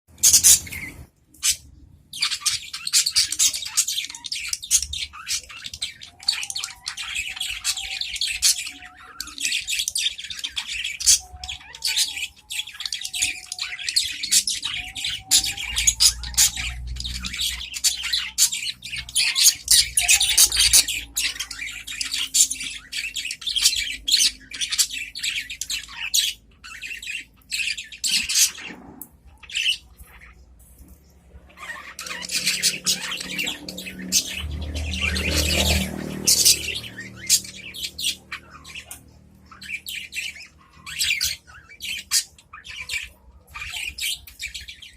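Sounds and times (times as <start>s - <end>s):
budgerigars chattering: 0.1s - 44.9s.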